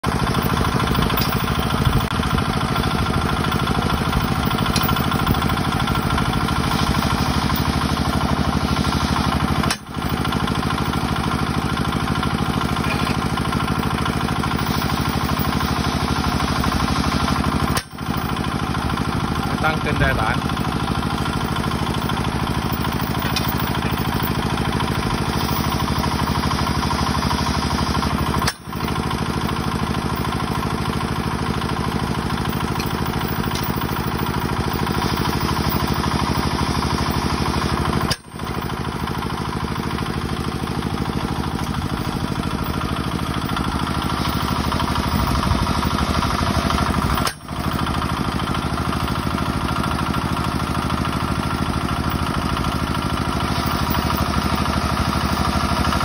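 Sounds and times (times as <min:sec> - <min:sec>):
auto-trip hammer clattering: 0:00.0 - 0:49.5
drill rig engine running: 0:00.0 - 0:56.0.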